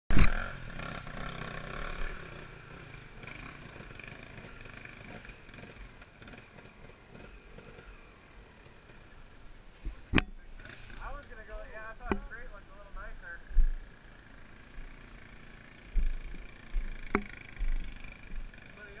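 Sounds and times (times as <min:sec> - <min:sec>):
dirt bike engine idling: 0:00.2 - 0:19.0.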